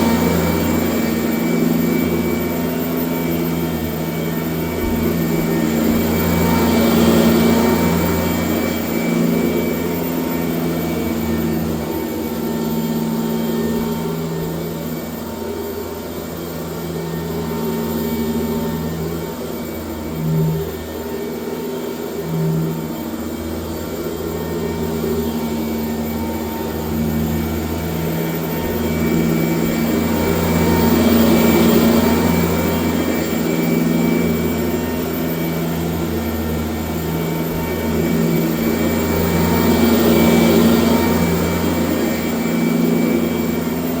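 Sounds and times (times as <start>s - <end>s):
upright vacuum cleaner running: 0.0s - 44.0s.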